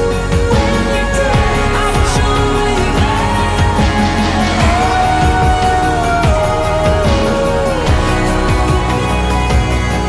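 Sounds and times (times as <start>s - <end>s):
held melody line: 0.0s - 10.0s.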